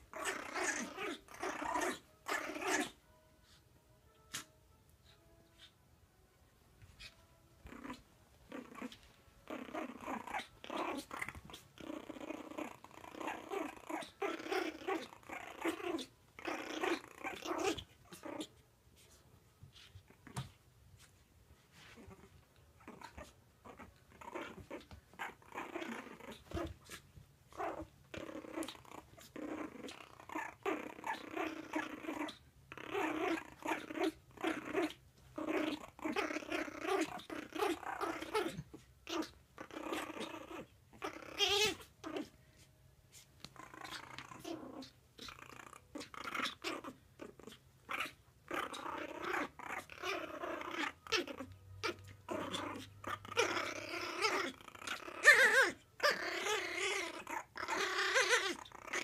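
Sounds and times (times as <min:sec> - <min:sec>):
puppies growling: 0:00.0 - 0:03.0, 0:07.0 - 0:18.6, 0:21.8 - 0:42.4, 0:43.4 - 0:59.0.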